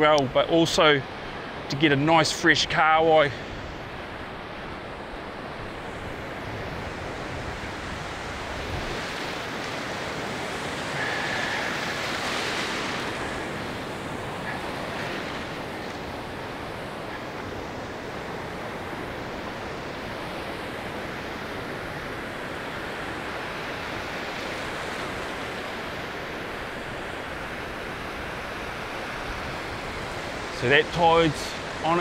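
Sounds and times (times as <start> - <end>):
ocean waves breaking on beach: 0.0 - 32.0.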